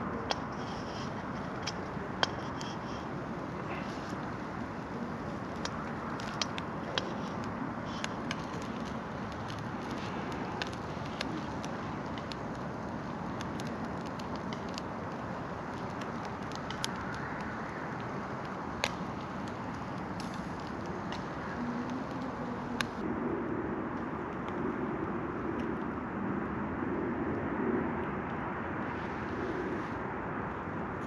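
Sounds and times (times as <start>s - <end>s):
wood campfire crackling: 0.0s - 23.2s, 23.9s - 31.0s
steady rushing noise: 0.0s - 31.0s.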